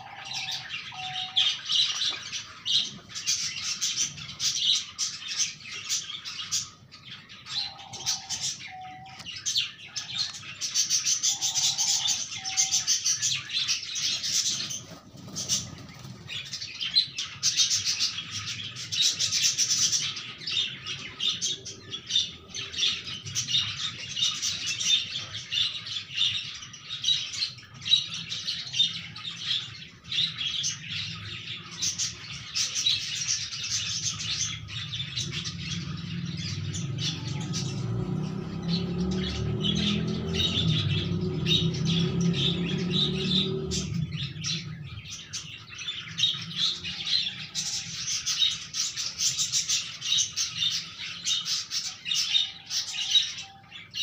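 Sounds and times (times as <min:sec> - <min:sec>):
parrot chick chirping: 0:00.0 - 0:54.0.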